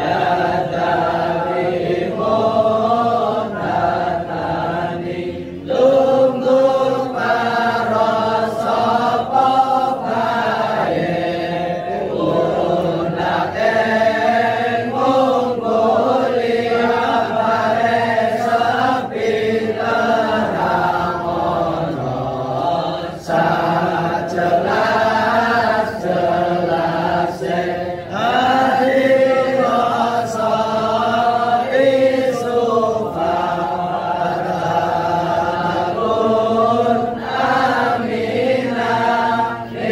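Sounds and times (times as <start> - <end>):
group chanting prayers: 0.0 - 39.9.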